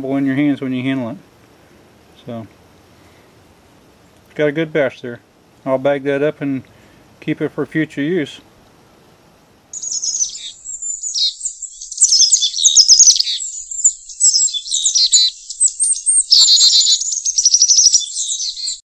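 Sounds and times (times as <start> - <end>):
songbirds singing: 0.0 - 18.8.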